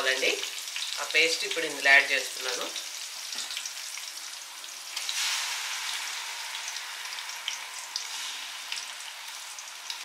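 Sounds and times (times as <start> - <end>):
oil sizzling and crackling: 0.0 - 10.0.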